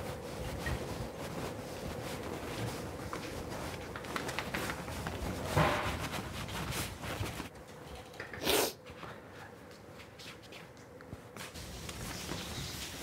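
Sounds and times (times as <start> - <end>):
clothes and bedding rustling: 0.0 - 8.1, 8.8 - 13.0
faint room hum: 0.0 - 13.0.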